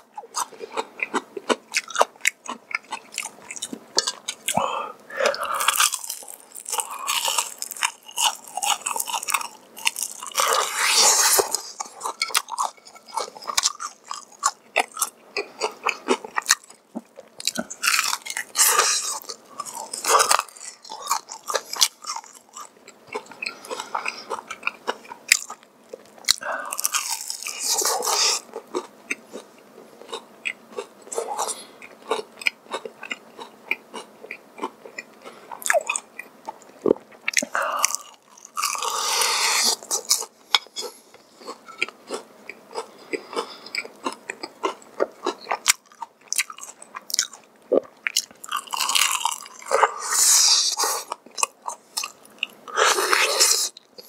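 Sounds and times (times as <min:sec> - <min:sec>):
quiet chewing and crackling: 0:00.0 - 0:54.0
loud crunching of fried chicken: 0:00.3 - 0:30.2, 0:37.3 - 0:40.7, 0:41.4 - 0:54.0.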